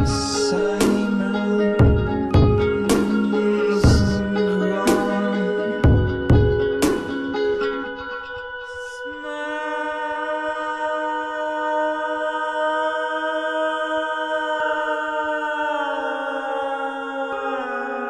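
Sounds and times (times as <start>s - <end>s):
slow drone-like sustained chord: 0.0s - 18.0s.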